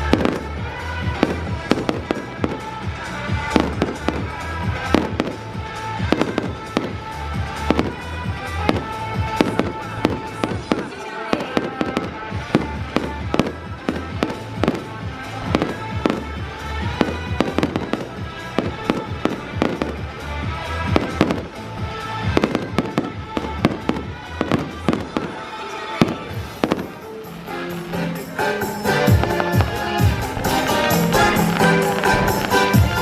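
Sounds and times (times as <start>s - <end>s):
fireworks bangs and crackling: 0.0s - 33.0s
music: 0.0s - 33.0s.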